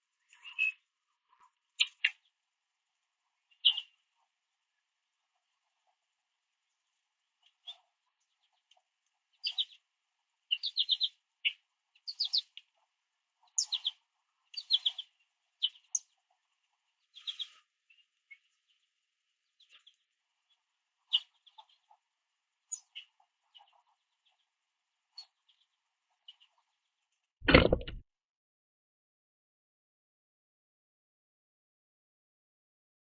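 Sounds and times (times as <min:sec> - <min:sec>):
songbirds chirping: 0:00.0 - 0:27.3.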